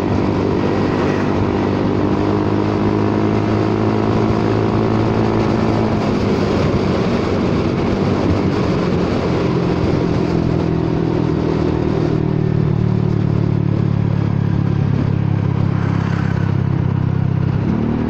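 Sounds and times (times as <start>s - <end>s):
scooter engine and loud exhaust: 0.0s - 18.0s
wind noise: 0.0s - 18.0s.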